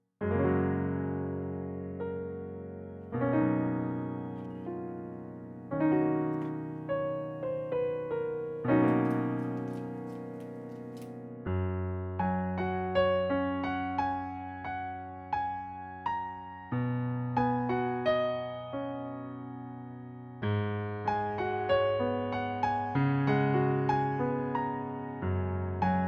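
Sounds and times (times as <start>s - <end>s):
slow gentle solo piano: 0.2s - 26.0s.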